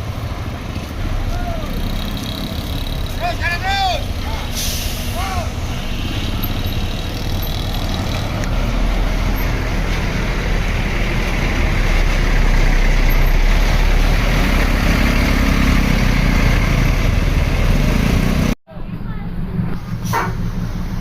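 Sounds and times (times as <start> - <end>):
diesel bus engine rumbling: 0.0 - 21.0.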